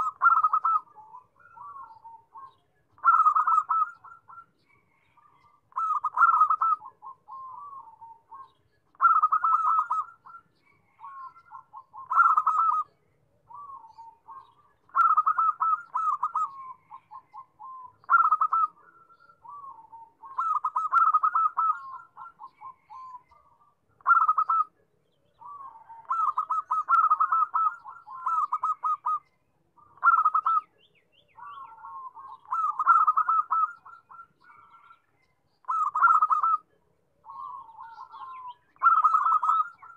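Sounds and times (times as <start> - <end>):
dove cooing: 0.0 - 35.0, 35.6 - 39.9.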